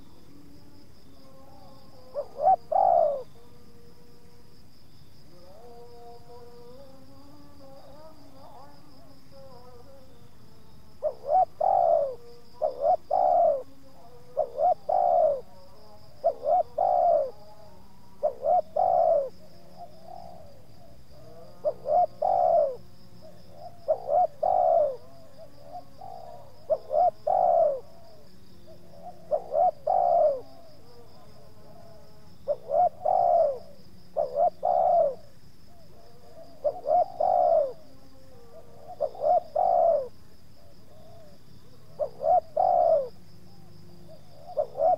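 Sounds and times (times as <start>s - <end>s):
insects trilling: 0.0s - 44.9s
dove cooing: 1.1s - 3.6s, 11.0s - 44.9s.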